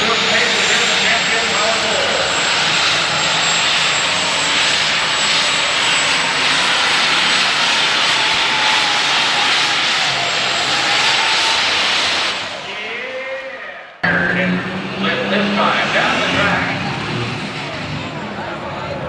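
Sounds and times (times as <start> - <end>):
diesel engine at high revs: 0.0 - 12.7, 14.0 - 19.0
turbocharger whine: 0.0 - 12.7, 14.0 - 19.0.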